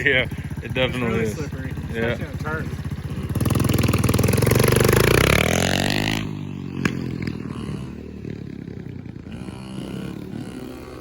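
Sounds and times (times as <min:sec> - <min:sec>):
dirt bike engine passing: 0:00.0 - 0:11.0.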